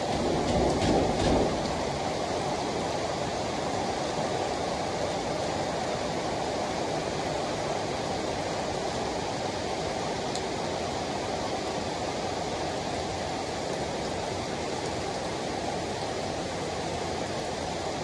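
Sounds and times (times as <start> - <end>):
heavy rain on pavement and leaves: 0.0 - 18.0.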